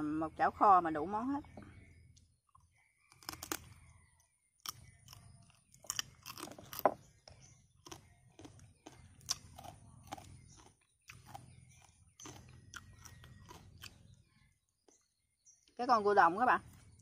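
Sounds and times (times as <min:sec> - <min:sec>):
chewing and crunching crab shell: 0:02.0 - 0:15.8.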